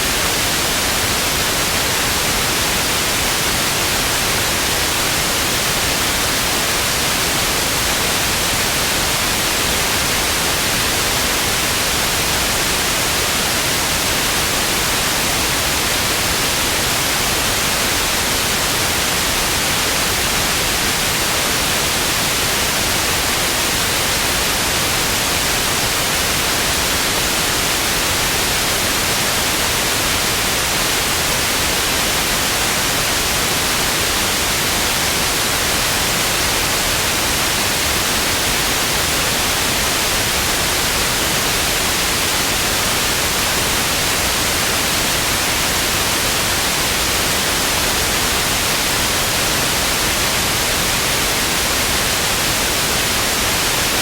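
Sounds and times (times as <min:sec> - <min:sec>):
television static hiss: 0:00.0 - 0:54.0.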